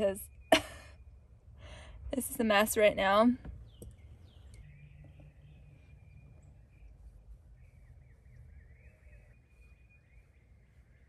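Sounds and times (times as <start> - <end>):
faint birds singing: 0.0 - 11.0
low outdoor rumble: 0.0 - 11.0.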